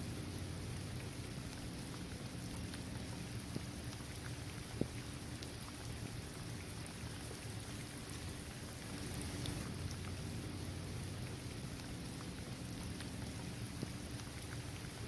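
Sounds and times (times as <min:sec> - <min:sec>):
rain falling on pavement: 0:00.0 - 0:15.0.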